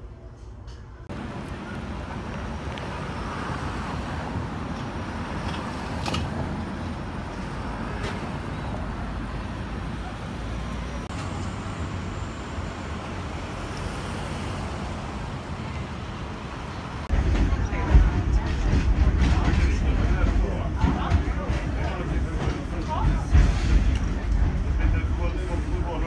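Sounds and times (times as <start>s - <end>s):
street traffic passing: 0.0s - 26.0s.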